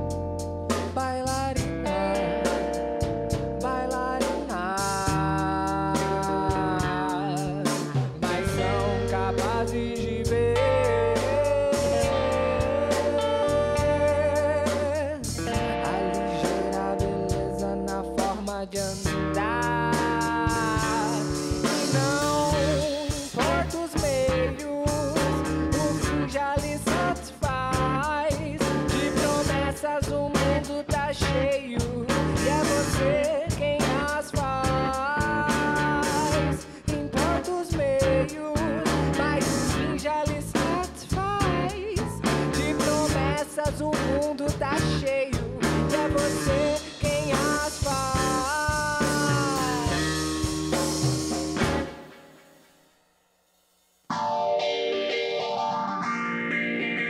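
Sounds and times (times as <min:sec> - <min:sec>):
bass guitar: 0:00.0 - 0:52.6, 0:54.1 - 0:57.0
electric guitar lead line: 0:00.0 - 0:52.8, 0:54.1 - 0:57.0
drum kit: 0:00.0 - 0:57.0.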